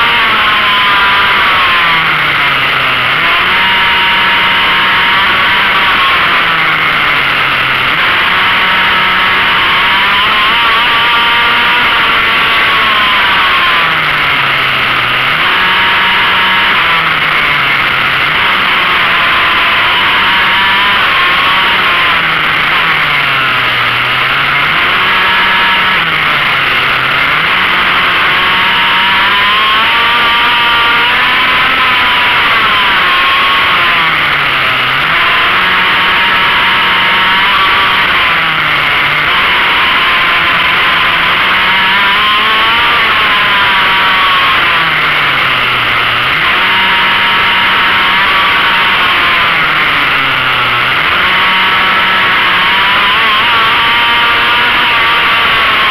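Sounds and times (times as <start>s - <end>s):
racing engine revving: 0.0s - 55.9s.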